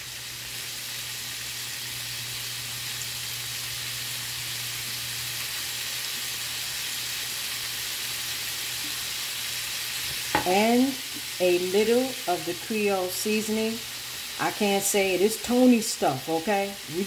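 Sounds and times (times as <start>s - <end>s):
sausage frying in oil: 0.0s - 17.0s.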